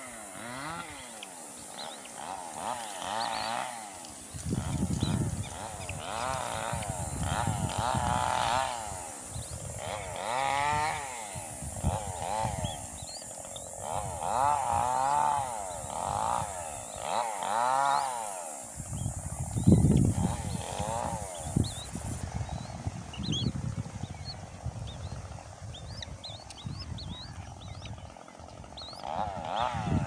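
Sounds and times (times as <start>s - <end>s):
raptor chicks begging calls: 0.0s - 30.0s.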